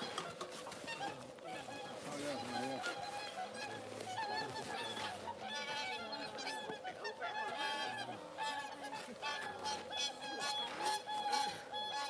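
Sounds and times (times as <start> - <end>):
swans and cranes calling: 0.0 - 12.0.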